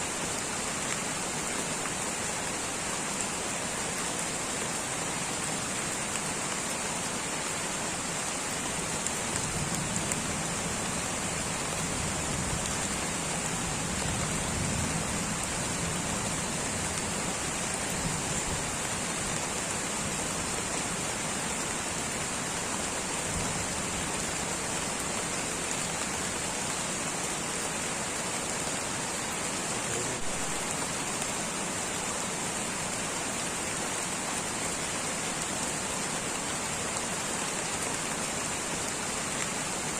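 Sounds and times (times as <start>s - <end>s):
light steady rain: 0.0s - 39.9s.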